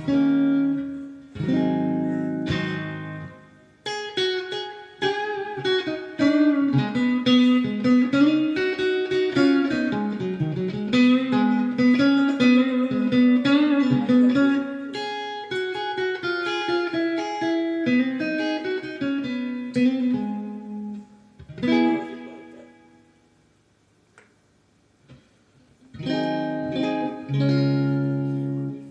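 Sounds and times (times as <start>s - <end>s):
electric guitar chord ringing: 0.0s - 23.5s, 25.9s - 28.9s
electric guitar single notes: 0.0s - 23.5s, 25.9s - 28.9s.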